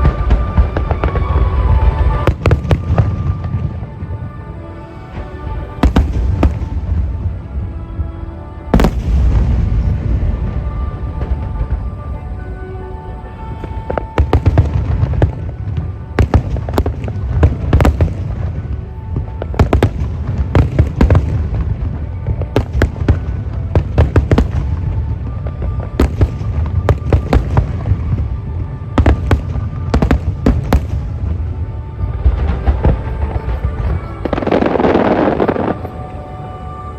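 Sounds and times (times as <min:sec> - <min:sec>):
fireworks bursting with loud bangs: 0:00.0 - 0:04.4, 0:05.1 - 0:07.6, 0:08.7 - 0:12.2, 0:13.6 - 0:36.2
constant low rumble: 0:00.0 - 0:36.9
music playing: 0:00.0 - 0:36.9.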